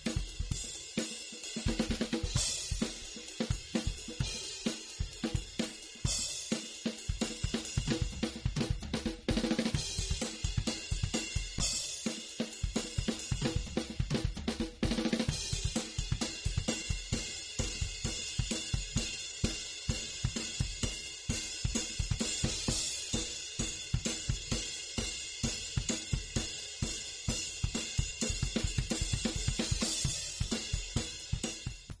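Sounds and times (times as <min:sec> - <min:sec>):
drum kit beat: 0:00.0 - 0:32.0.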